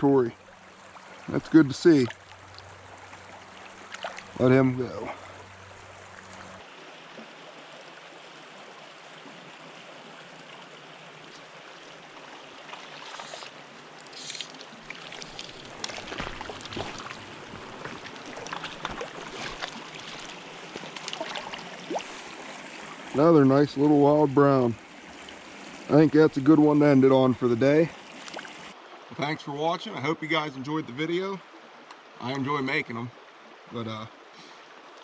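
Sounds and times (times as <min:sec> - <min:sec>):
stream flowing: 0:00.0 - 0:35.0.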